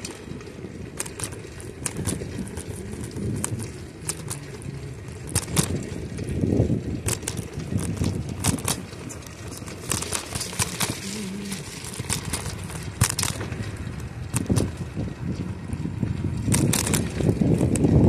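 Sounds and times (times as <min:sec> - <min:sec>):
bicycle tyres clicking and crackling: 0:00.0 - 0:18.0
wind on microphone: 0:00.0 - 0:18.0.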